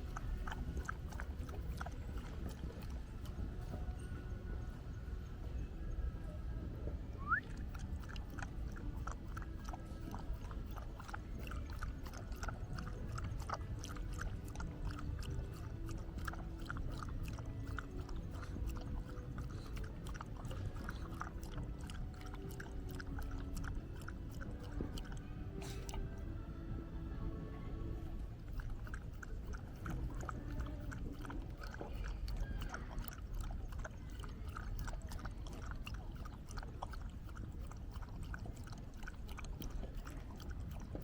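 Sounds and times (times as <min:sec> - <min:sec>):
dog lapping water: 0:00.0 - 0:04.0, 0:07.2 - 0:26.4, 0:28.0 - 0:41.0.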